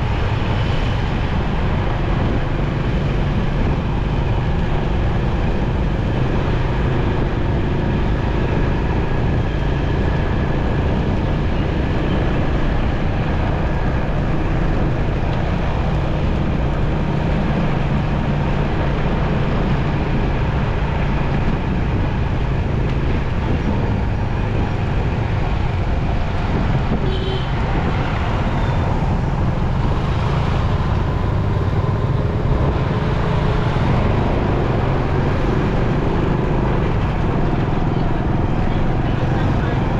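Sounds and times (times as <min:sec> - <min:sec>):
motorcycle engine running: 0:00.0 - 0:39.9
other vehicles passing: 0:00.0 - 0:39.9
road and wind rush: 0:00.0 - 0:39.9.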